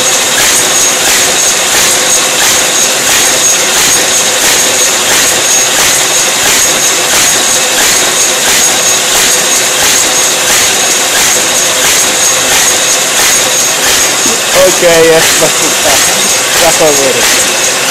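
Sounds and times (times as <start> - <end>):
paper-feeding machine whining and beating: 0.0 - 17.9.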